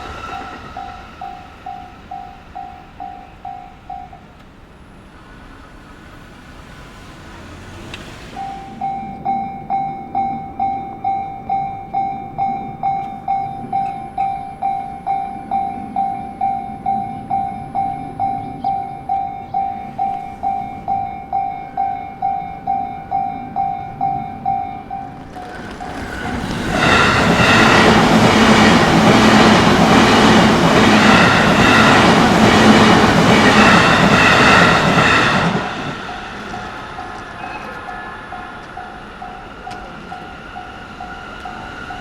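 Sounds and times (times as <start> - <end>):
rushing noise: 0.0 - 13.7, 14.6 - 42.0
level-crossing warning bell ringing: 0.0 - 42.0.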